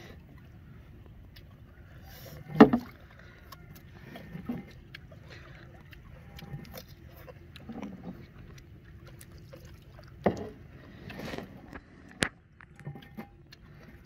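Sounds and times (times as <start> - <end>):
paddle strokes swishing water: 0.0 - 12.1.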